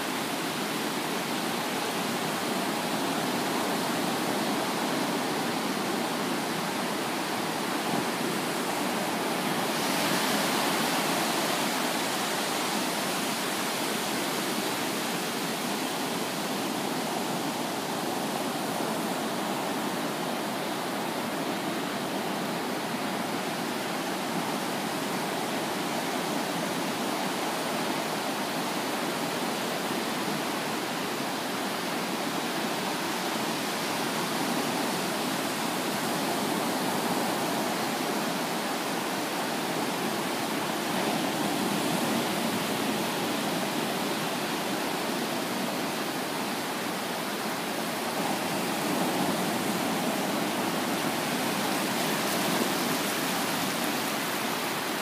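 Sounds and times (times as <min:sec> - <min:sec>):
waves breaking on sand: 0:00.0 - 0:55.0.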